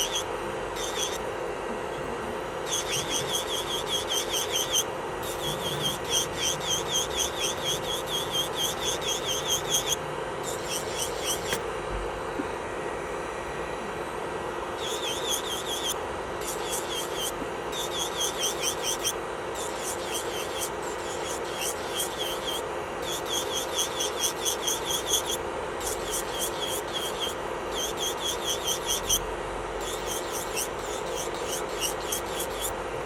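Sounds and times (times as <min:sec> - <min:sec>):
electric nail drill running: 0:00.0 - 0:01.4, 0:02.0 - 0:32.8.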